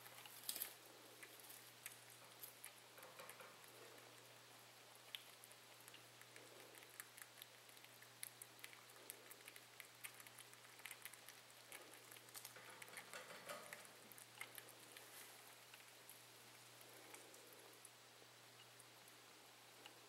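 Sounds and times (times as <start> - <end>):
low steady hum: 0.0 - 20.0
rabbits suckling clicks and pattering: 0.0 - 20.0.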